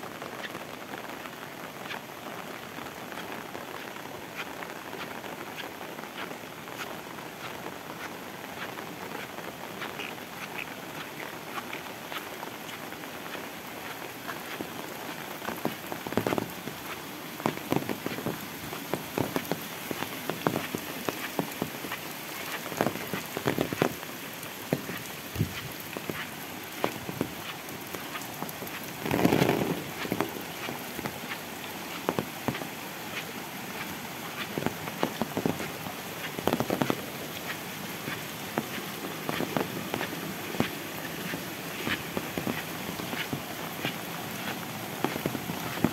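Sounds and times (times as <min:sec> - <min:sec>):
steady rain: 0:00.0 - 0:45.9
raindrops tapping: 0:00.1 - 0:45.9.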